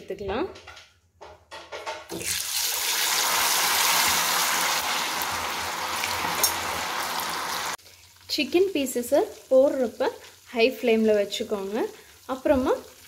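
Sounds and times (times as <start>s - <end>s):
oil sizzling and bubbling: 2.1s - 13.0s.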